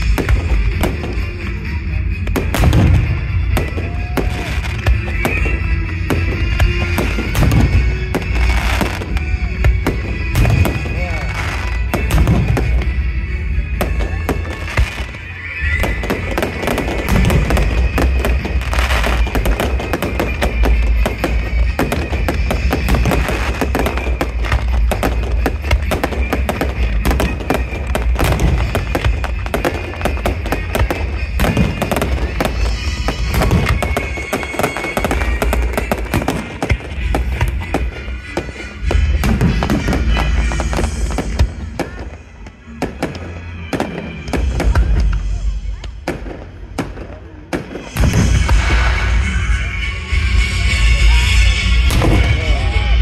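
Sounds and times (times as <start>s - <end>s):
fireworks bangs and crackles: 0.0s - 53.0s
music playing: 0.0s - 53.0s.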